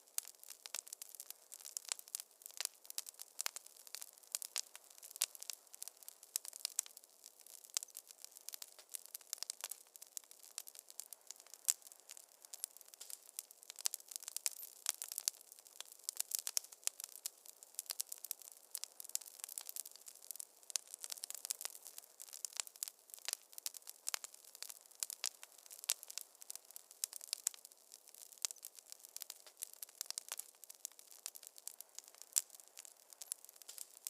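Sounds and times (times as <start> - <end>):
soft steady hiss: 0.0 - 34.0
wood fire crackling: 0.0 - 34.0.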